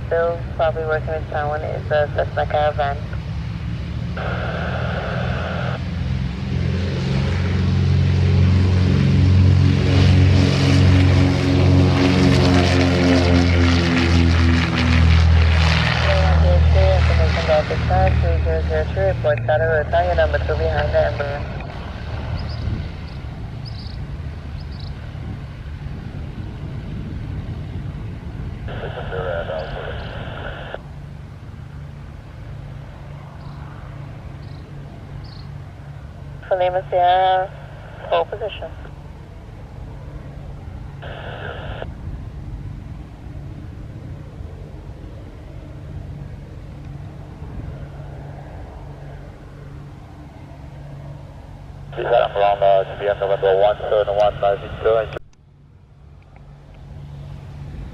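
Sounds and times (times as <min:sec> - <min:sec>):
aircraft engine rumble: 0:00.0 - 0:57.9.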